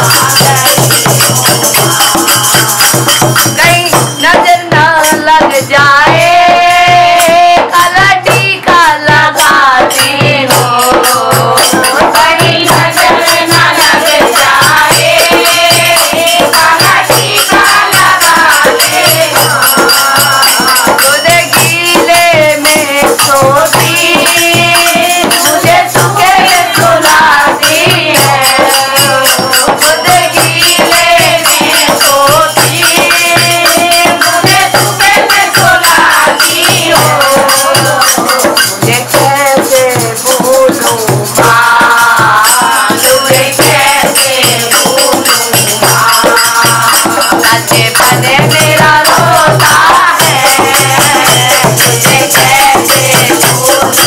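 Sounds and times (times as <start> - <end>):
fast percussion rattle: 0.0 - 54.0
hand drum beat: 0.0 - 54.0.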